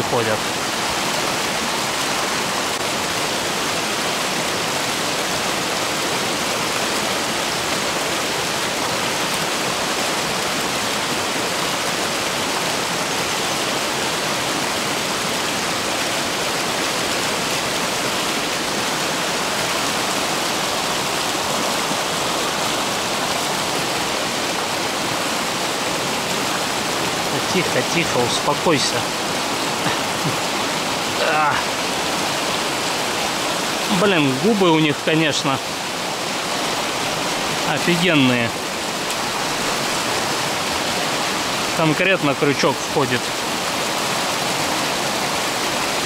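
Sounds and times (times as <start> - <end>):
river rushing: 0.0 - 46.0.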